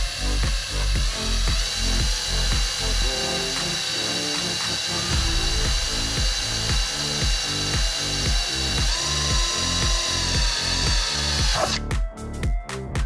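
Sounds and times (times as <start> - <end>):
background music with a beat: 0.0 - 13.0
power drill whining: 0.1 - 11.8.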